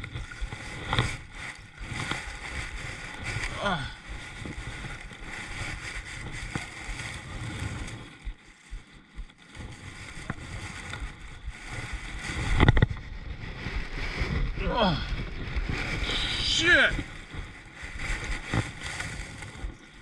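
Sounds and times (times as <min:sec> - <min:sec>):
water against kayak hull: 0:00.0 - 0:20.0
wind on microphone: 0:00.0 - 0:20.0.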